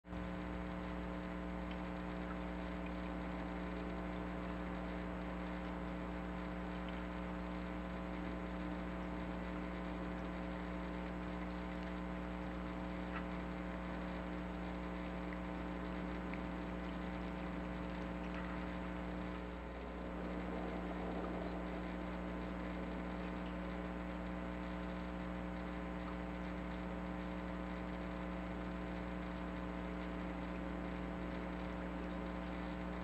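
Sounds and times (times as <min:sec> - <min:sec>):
low electrical hum: 0:00.1 - 0:33.0
faint ticks: 0:00.2 - 0:33.0.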